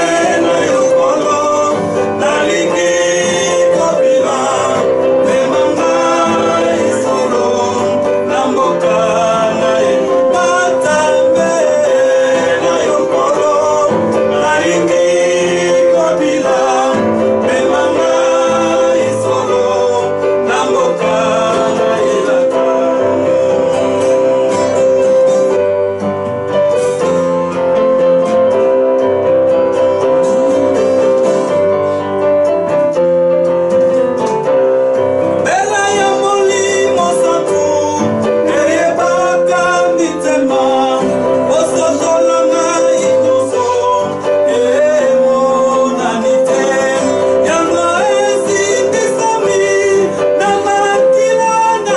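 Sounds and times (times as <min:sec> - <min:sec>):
man singing gospel song: 0:00.0 - 0:25.3, 0:35.4 - 0:51.9
acoustic guitar: 0:00.0 - 0:51.9.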